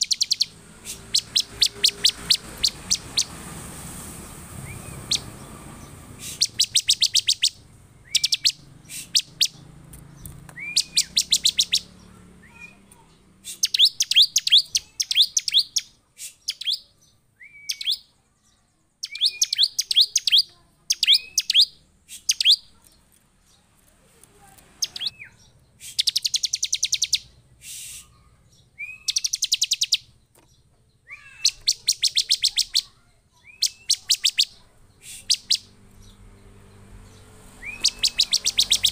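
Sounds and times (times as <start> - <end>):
bird singing sharp high notes: 0.0 - 3.4, 4.0 - 9.7, 10.6 - 18.2, 19.0 - 22.8, 24.8 - 28.2, 28.8 - 30.2, 31.1 - 36.2, 37.0 - 38.9.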